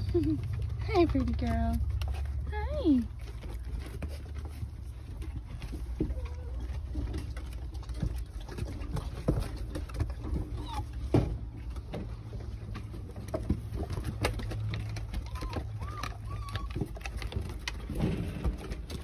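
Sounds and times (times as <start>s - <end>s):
puppy paws pattering on wood: 0.0s - 19.0s.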